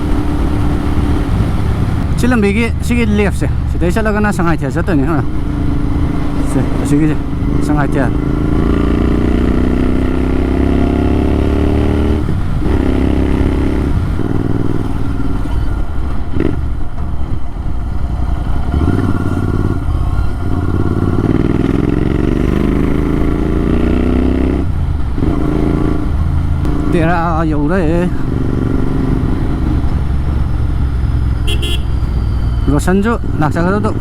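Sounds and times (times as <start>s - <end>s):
loud motorcycle accelerating: 0.0s - 34.0s.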